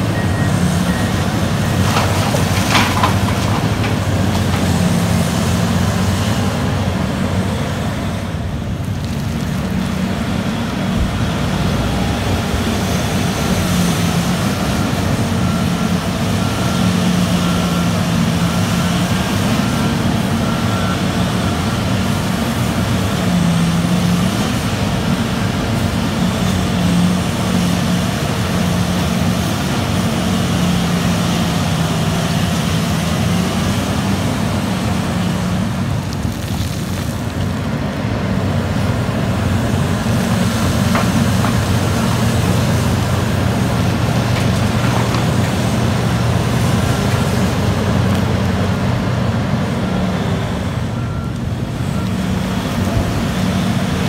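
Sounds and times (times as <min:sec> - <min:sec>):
deep excavator engine hum: 0:00.0 - 0:54.0.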